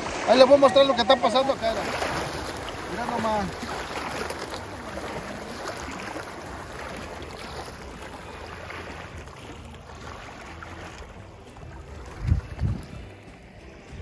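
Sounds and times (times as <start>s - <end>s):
waves washing on shore: 0.0s - 14.0s.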